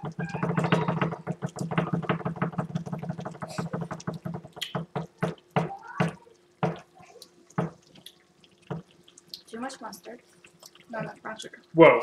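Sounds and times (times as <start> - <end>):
thick sauce bubbling in a pan: 0.0 - 12.0.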